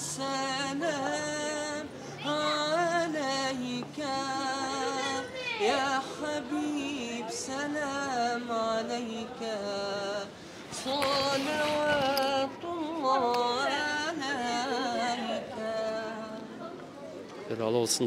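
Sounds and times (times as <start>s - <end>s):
man singing unaccompanied: 0.0s - 16.7s.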